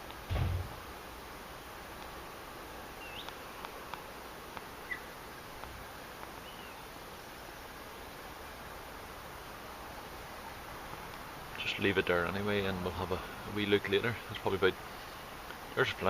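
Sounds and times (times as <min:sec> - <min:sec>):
faint outdoor hiss: 0:00.0 - 0:16.0
small birds chirping: 0:01.4 - 0:16.0.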